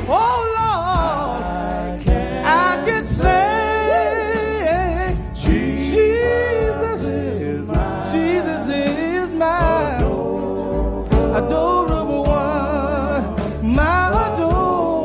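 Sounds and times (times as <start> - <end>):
live band backing: 0.0 - 15.0
man singing gospel: 0.0 - 15.0.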